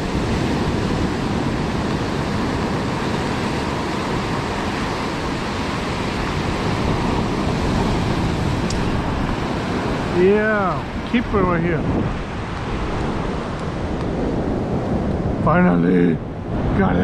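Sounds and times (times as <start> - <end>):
ocean surf rushing: 0.0 - 17.0
wind rumbling on microphone: 0.0 - 17.0.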